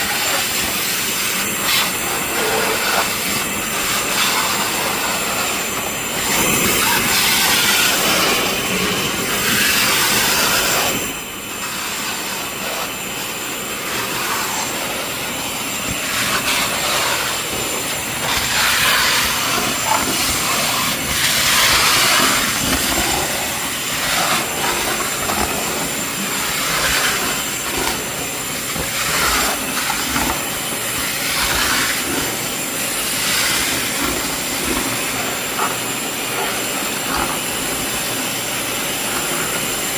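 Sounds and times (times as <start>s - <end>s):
rushing hiss of air and water: 0.0s - 39.9s
vacuum motor whine: 0.0s - 39.9s.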